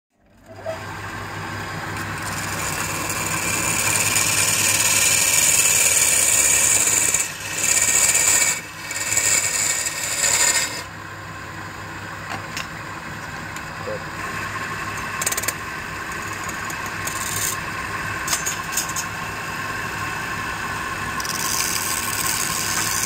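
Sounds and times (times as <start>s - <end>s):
chisel scraping spinning wood: 0.4s - 11.0s, 13.1s - 23.0s
lathe motor hum: 0.4s - 23.0s.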